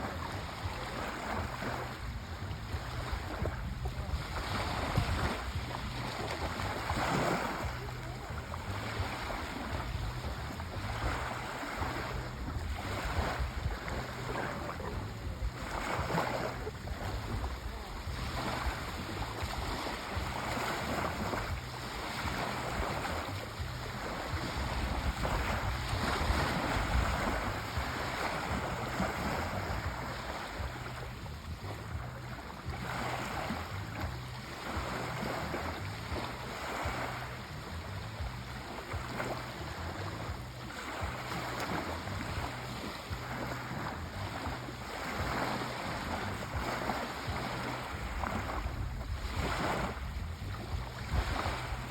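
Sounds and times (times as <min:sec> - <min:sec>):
sea waves washing on shore: 0:00.0 - 0:51.9.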